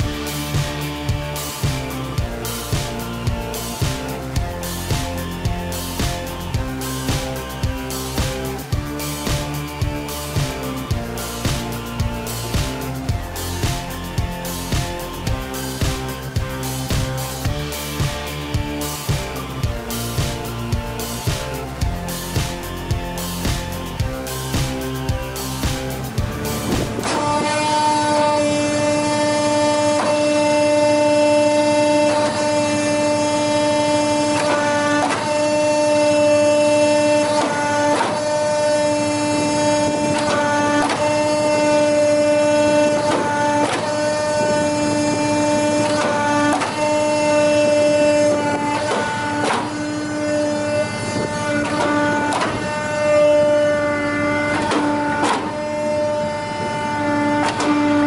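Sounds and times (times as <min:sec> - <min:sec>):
hydraulic press humming and whining: 0:00.0 - 0:58.0.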